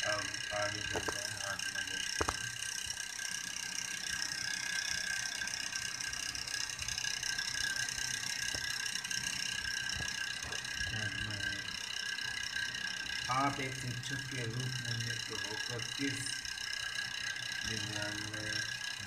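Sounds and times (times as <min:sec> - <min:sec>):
mechanical whirring with high whine: 0:00.0 - 0:19.0.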